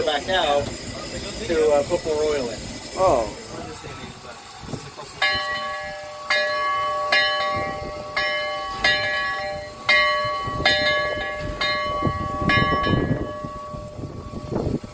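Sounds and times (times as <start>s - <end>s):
steam locomotive bell ringing: 0.0s - 14.9s
low rumbling: 0.6s - 14.9s.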